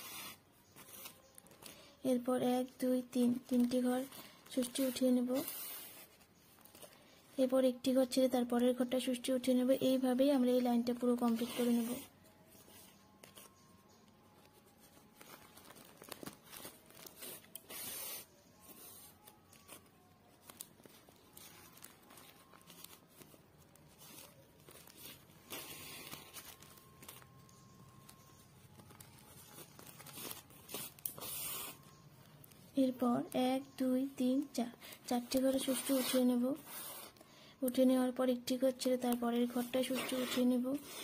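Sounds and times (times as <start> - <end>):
plastic crinkling: 0.1 - 7.5, 10.0 - 33.3, 34.3 - 41.0.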